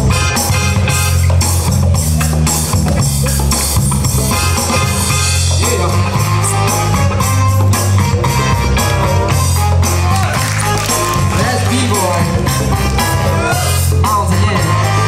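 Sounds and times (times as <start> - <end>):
breakbeat music: 0.0 - 15.0.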